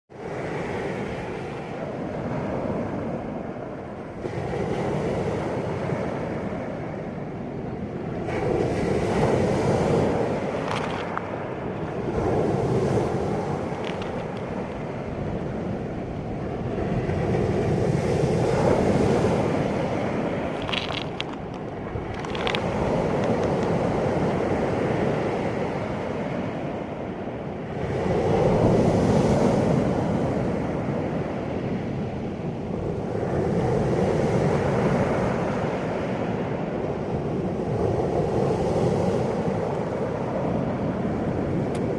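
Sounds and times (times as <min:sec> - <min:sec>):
sea waves breaking: 0:00.2 - 0:41.9.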